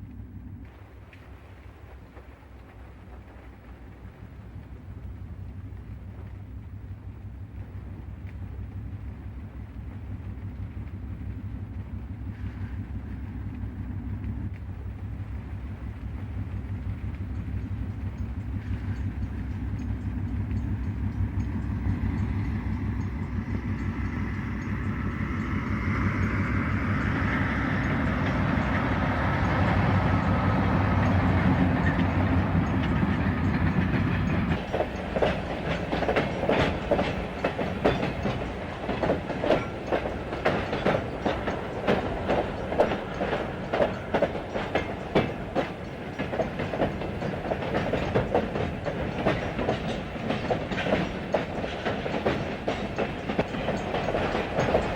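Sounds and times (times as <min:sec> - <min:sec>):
train engine drone: 0:00.0 - 0:54.9
train wheels clacking over rail joints: 0:07.6 - 0:54.9.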